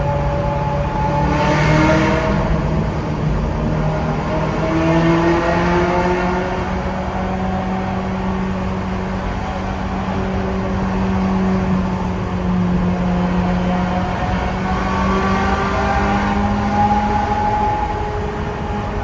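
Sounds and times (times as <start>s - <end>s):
sports car engine and exhaust: 0.0s - 19.0s.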